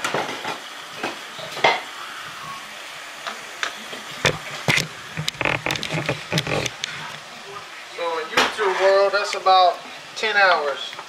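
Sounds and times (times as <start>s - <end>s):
meat and peppers sizzling: 0.0s - 11.0s.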